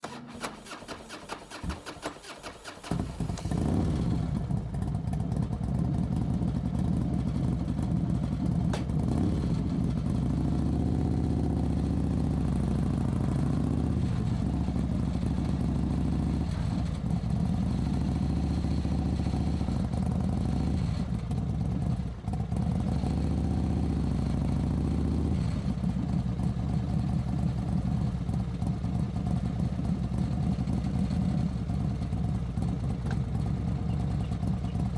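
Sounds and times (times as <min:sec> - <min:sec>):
motorcycle engine running: 0:00.8 - 0:34.9.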